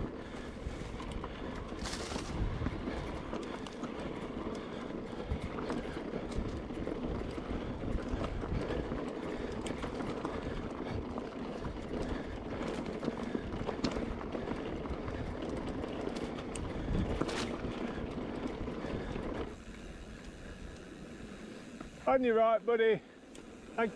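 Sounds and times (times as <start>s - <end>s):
bike tyres rolling on dirt: 0.0s - 23.9s.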